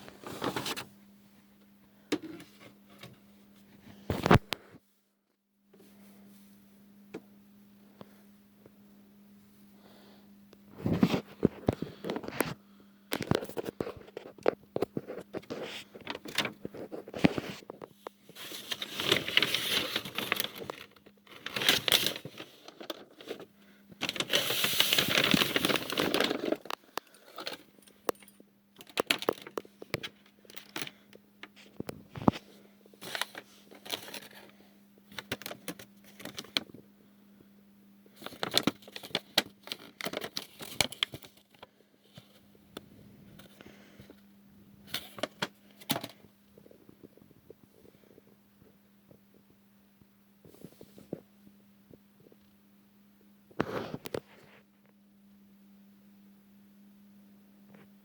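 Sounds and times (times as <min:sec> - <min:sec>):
steady low hum: 0:05.6 - 0:58.0.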